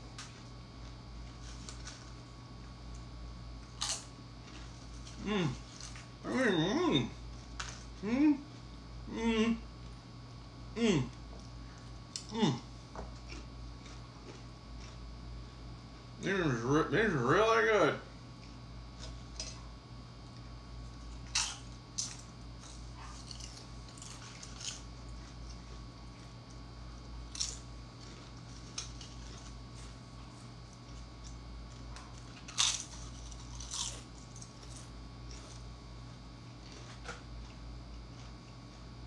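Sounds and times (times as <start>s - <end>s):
chewing crunchy chips: 0.1s - 8.6s, 10.8s - 15.6s, 18.4s - 39.0s.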